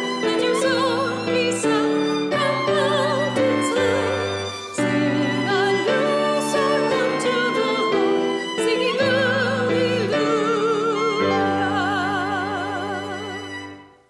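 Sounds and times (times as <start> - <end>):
hymn singing with vibrato: 0.0 - 13.8.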